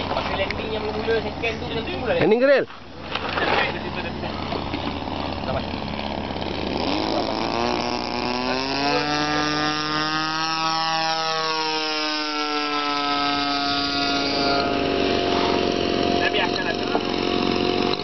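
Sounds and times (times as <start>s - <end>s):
model plane engine buzzing: 2.9s - 18.0s.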